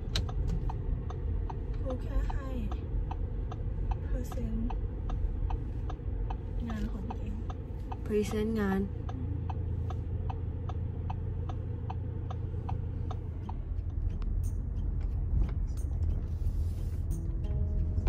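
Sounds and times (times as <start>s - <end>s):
car cabin road rumble: 0.0s - 18.0s
turn signal ticking: 0.0s - 18.0s.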